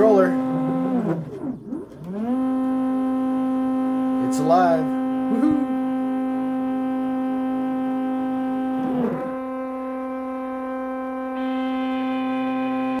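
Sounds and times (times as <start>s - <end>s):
stepper motors humming: 0.0s - 13.0s.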